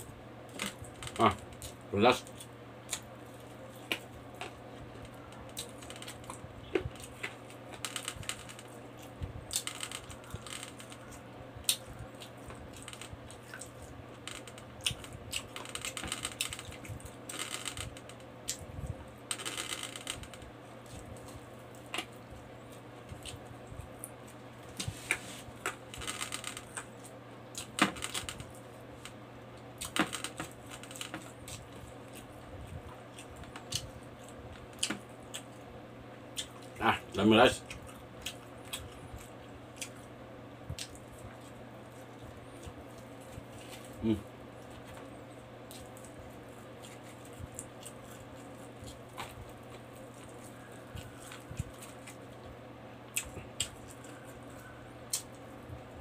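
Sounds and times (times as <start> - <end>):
man chewing with wet clicks: 0.5 - 36.8, 37.6 - 56.0.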